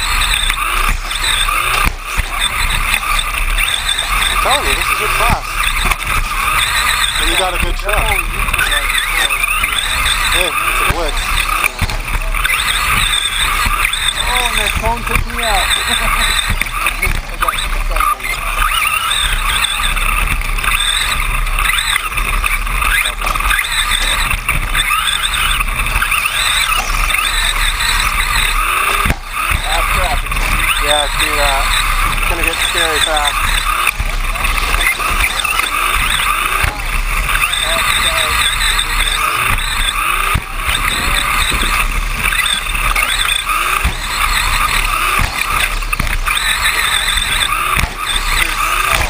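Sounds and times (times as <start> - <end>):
chassis knocking over bumps: 0.0 - 49.0
electric motors whining: 0.0 - 49.0.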